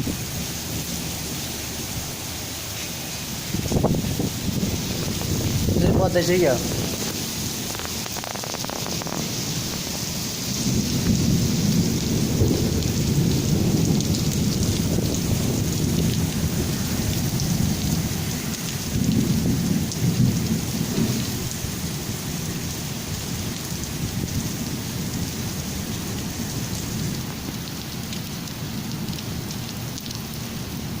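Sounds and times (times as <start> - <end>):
low thunder rumble: 0.0 - 30.0
heavy rain falling: 0.0 - 31.0.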